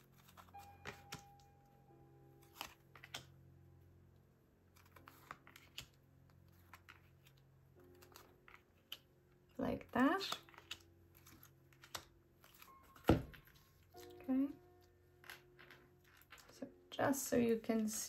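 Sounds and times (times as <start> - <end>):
slow background music: 0.0 - 18.0.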